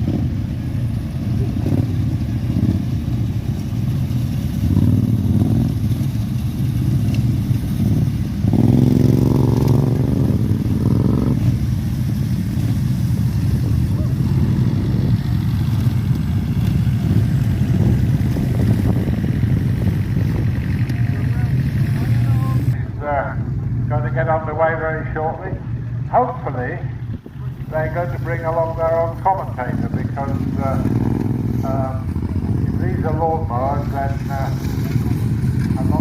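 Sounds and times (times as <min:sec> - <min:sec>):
lawnmower engines running: 0:00.0 - 0:36.0.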